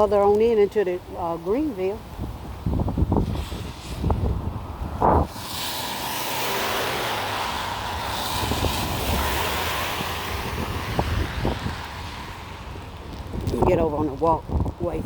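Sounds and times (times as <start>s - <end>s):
traffic on a wet road: 0.0s - 15.0s
wind buffeting microphone: 0.0s - 15.0s.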